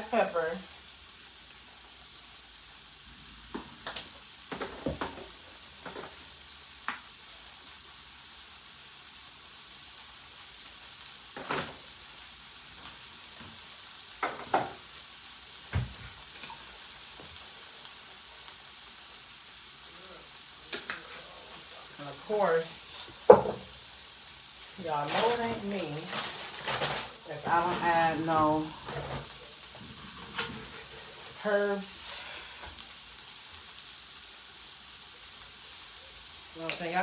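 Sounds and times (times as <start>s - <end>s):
vegetables sizzling in a frying pan: 0.0s - 37.0s.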